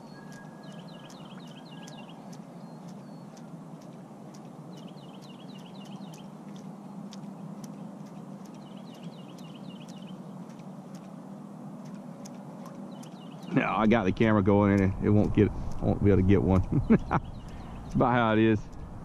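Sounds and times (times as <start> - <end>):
low background rush: 0.0 - 19.0
songbird chirping: 0.0 - 19.0
faint sharp ticks: 0.3 - 11.1, 11.8 - 13.5, 14.6 - 15.9, 17.3 - 18.8.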